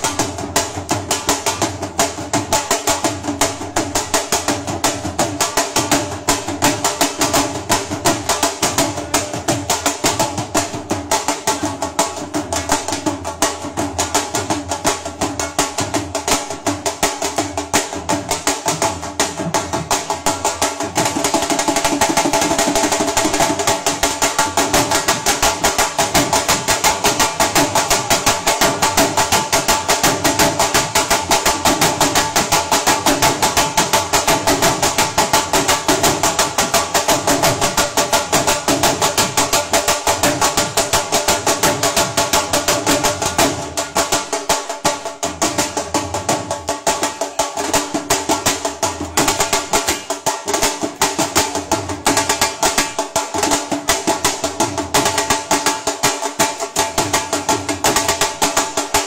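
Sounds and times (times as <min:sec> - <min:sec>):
dhol drumming: 0:00.0 - 0:59.0.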